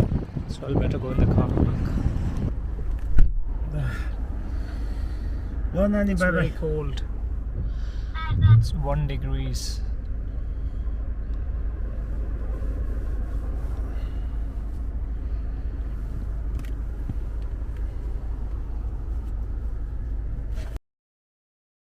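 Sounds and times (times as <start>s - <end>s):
car engine rumble inside cabin: 0.0s - 20.8s.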